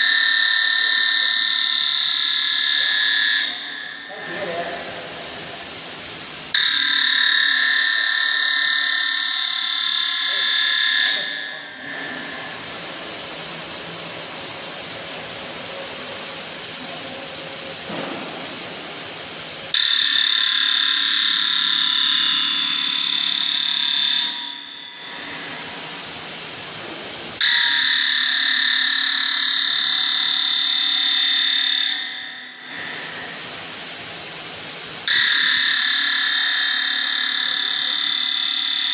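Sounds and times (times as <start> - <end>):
cnc machine high-pitched whine: 0.0 - 38.9
steady machine noise: 0.0 - 38.9.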